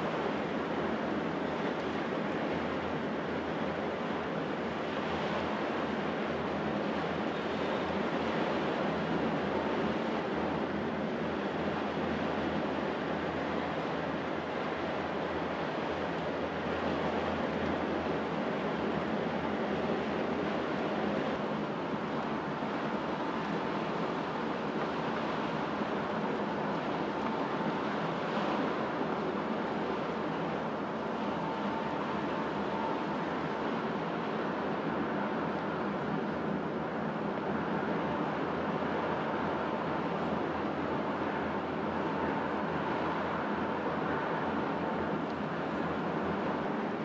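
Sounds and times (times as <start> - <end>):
wind: 0.0 - 47.0
tugboat engines droning: 0.1 - 47.0.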